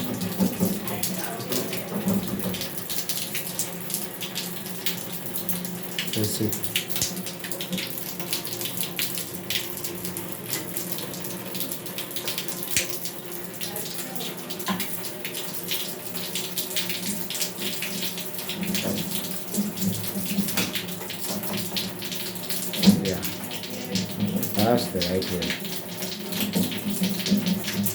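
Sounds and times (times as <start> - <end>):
tap water running into sink: 0.0 - 27.9.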